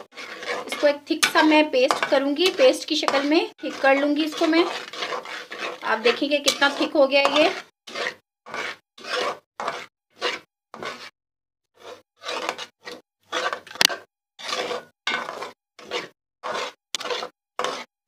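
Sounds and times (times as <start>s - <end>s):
spoon scraping a pan: 0.0s - 11.1s, 11.8s - 17.9s.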